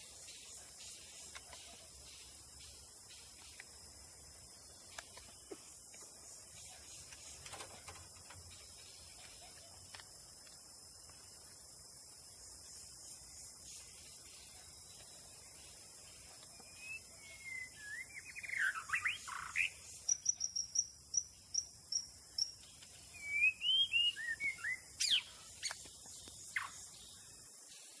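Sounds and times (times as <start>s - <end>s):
insect drone: 0.0s - 28.0s.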